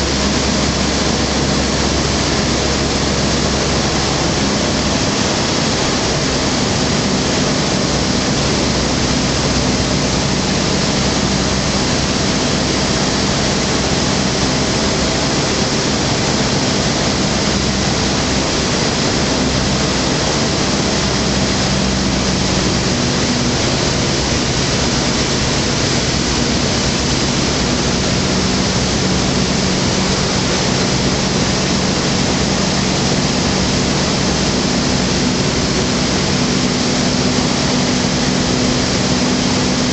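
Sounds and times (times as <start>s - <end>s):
aircraft engine running: 0.0s - 39.9s
rush of air noise: 0.0s - 39.9s.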